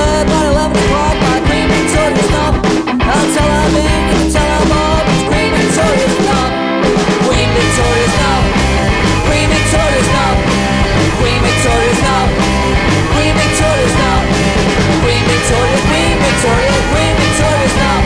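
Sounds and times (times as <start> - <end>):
punk rock song: 0.0 - 18.0.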